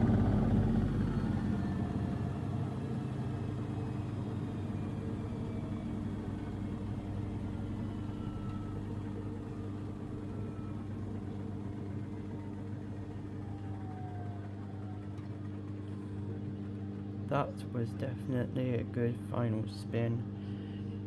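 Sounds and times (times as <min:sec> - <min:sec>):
washing machine spinning down: 0:00.0 - 0:21.0.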